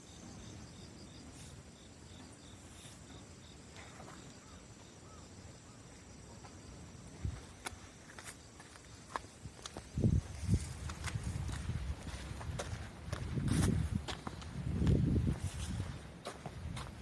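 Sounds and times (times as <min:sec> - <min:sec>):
insects chirping faintly: 0:00.0 - 0:17.0.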